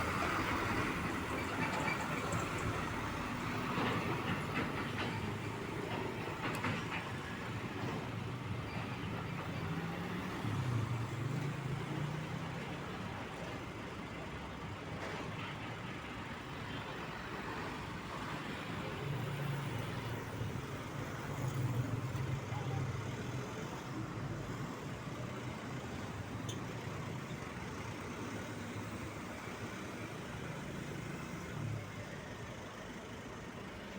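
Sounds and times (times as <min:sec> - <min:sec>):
truck diesel engines: 0:00.0 - 0:33.9.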